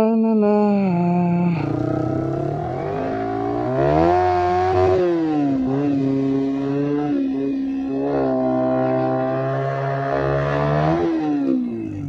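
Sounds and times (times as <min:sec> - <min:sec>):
motorcycle engine running: 0:01.6 - 0:12.0.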